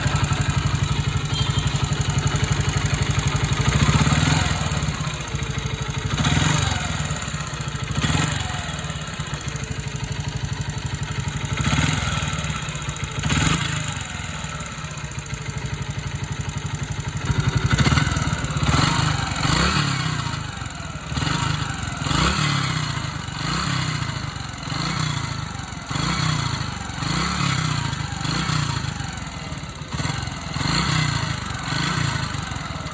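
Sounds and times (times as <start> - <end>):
motorcycle engine throttle blips: 0.0 - 32.9.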